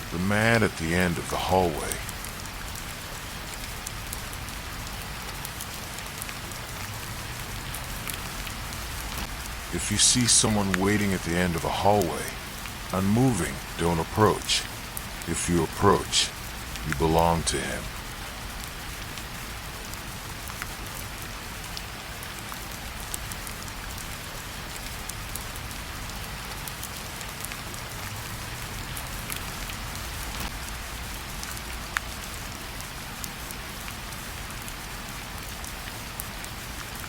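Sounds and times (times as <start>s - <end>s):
raindrops ticking: 0.0s - 37.0s
steady rainfall: 0.0s - 37.0s.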